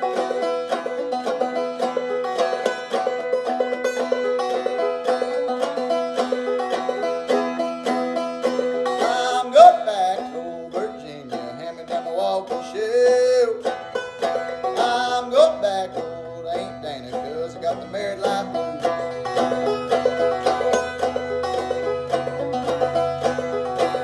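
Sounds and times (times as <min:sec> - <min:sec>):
clawhammer banjo playing blues: 0:00.0 - 0:24.0.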